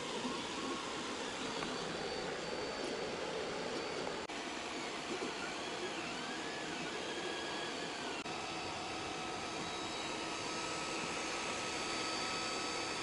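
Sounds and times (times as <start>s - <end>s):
cooling fans whirring: 0.0s - 13.0s
stepper motors whining: 0.0s - 13.0s.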